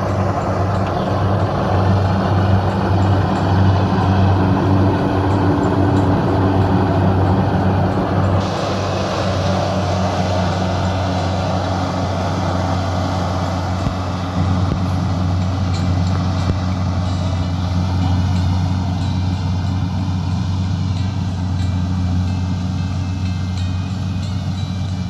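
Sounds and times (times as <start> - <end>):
combine harvester engine humming: 0.0 - 25.0.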